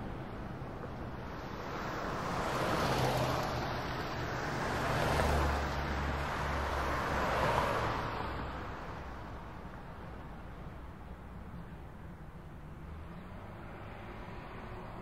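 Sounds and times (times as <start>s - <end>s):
vehicles passing by: 0.0s - 15.0s.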